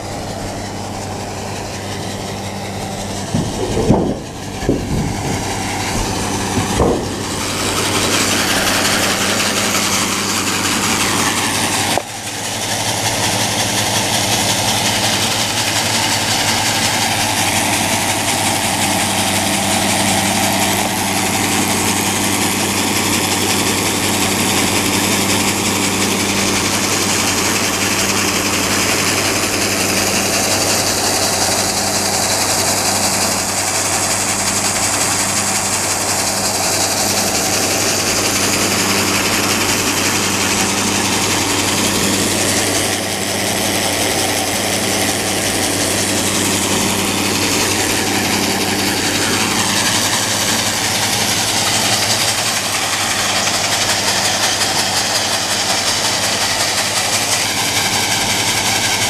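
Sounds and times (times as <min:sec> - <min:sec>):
grain auger running: 0:00.0 - 0:59.0.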